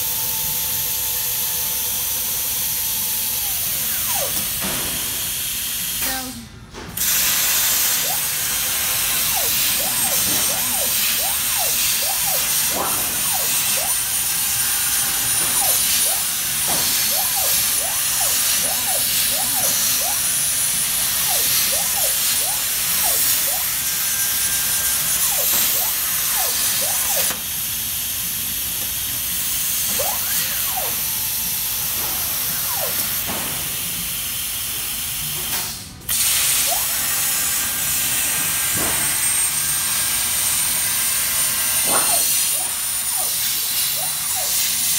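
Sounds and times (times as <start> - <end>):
gantry motors whining: 0.0 - 35.4, 36.0 - 44.9
plasma cutter hiss: 7.0 - 44.9.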